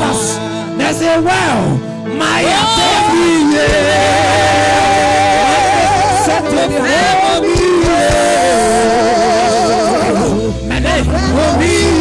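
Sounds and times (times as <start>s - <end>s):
slow worship music: 0.0s - 12.0s.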